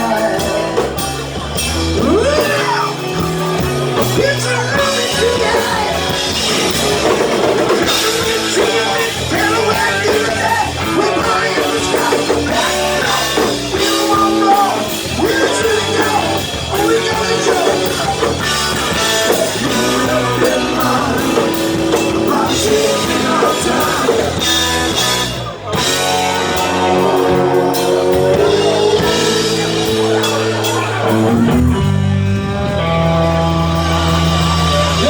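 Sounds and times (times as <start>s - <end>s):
person singing: 0.0s - 25.4s, 26.3s - 31.8s
electric guitar: 0.0s - 35.0s
live rock band playing: 0.0s - 35.0s.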